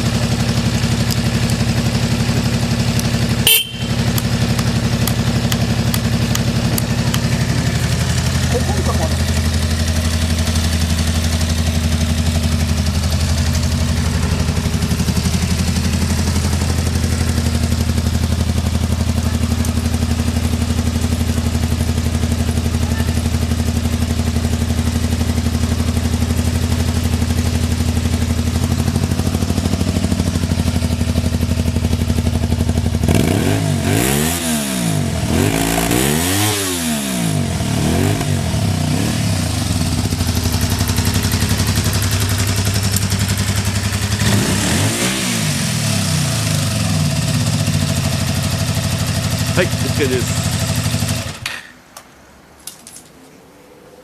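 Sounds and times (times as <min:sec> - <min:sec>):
motorcycle engine idling and revving: 0:00.0 - 0:51.7.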